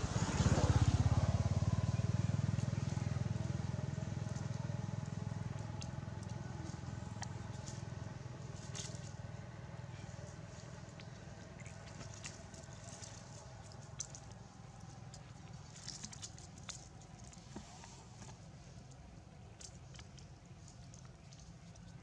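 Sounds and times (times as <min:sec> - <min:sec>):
vehicle engine passing: 0:00.0 - 0:18.2
dry leaves crackling: 0:02.2 - 0:21.6.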